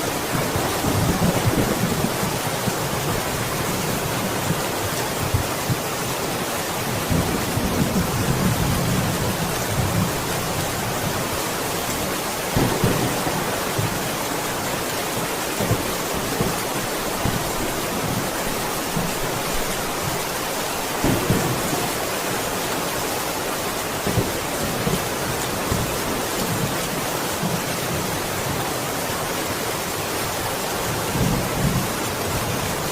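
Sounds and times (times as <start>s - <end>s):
steady rain hissing: 0.0s - 32.9s.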